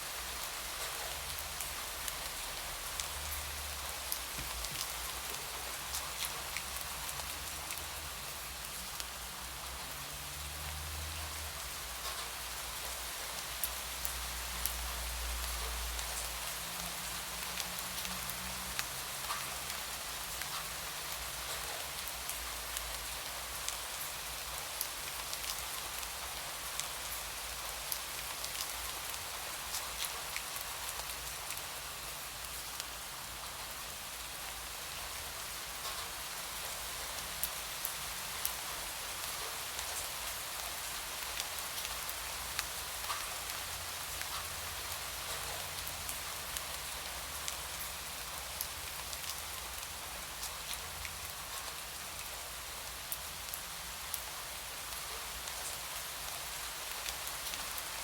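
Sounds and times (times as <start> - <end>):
steady rain with drops ticking: 0.0 - 58.0.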